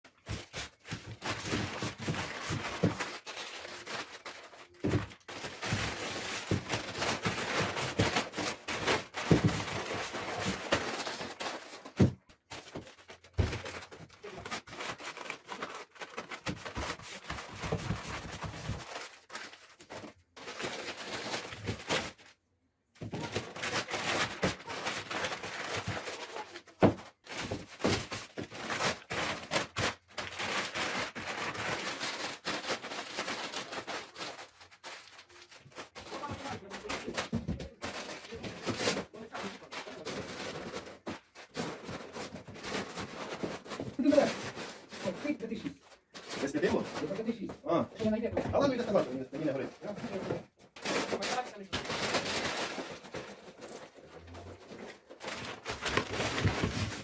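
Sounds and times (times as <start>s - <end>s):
scraping and rustling: 0.1s - 22.4s, 23.0s - 57.0s.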